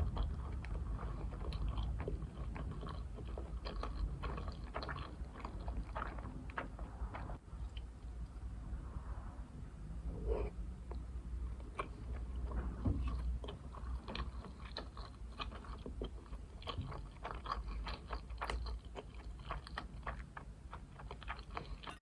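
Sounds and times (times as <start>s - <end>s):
wet chewing mouth clicks: 0.0s - 8.3s, 10.4s - 22.0s.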